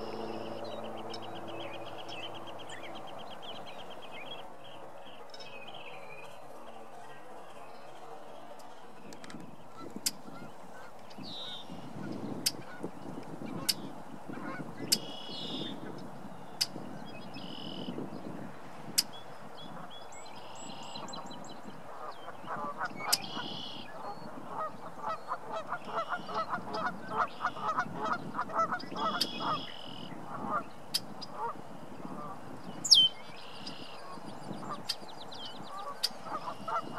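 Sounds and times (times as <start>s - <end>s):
blackbirds calling: 0.0s - 6.9s, 9.0s - 36.9s
fast low bird calls: 0.0s - 18.3s, 19.0s - 36.9s.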